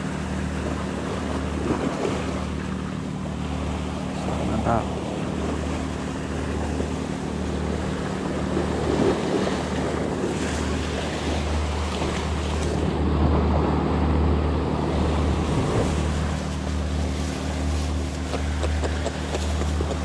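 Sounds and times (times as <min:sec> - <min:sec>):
sea surf breaking on rocks: 0:00.0 - 0:20.0
wind rumble on microphone: 0:00.0 - 0:20.0.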